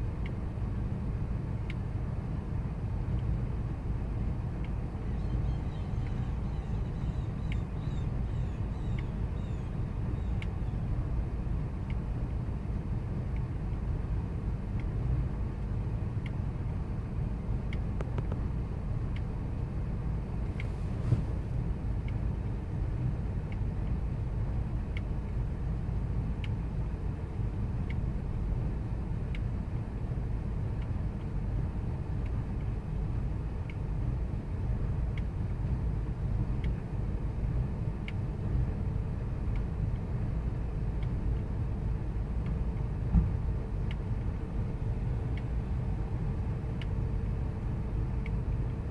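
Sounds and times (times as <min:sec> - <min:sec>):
faint engine tick: 0:00.0 - 0:48.9.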